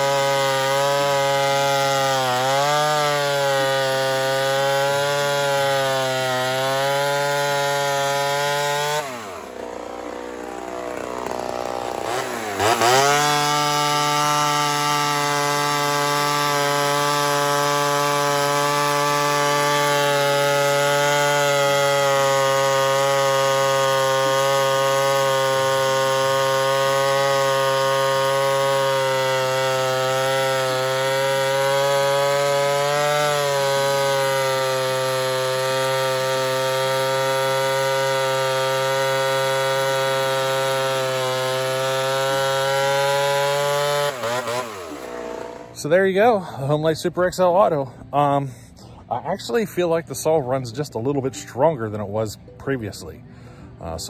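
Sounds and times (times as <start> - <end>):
chainsaw cutting wood: 0.0 - 48.4, 50.9 - 54.0.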